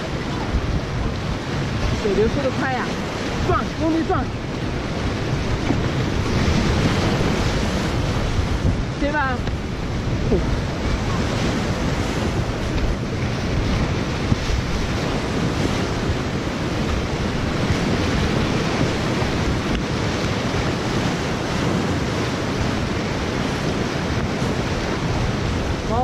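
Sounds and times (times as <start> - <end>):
river rapid roaring: 0.0 - 26.0.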